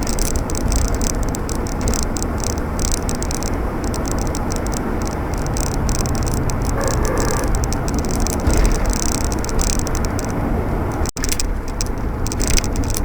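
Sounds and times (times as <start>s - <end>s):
steady hum: 0.0s - 11.1s
car engine low rumble: 0.0s - 13.0s.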